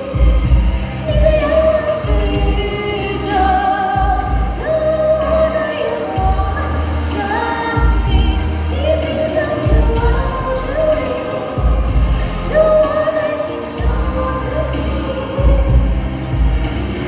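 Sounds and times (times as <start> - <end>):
backing track with bass: 0.0 - 17.0
woman singing into microphone: 0.0 - 17.0.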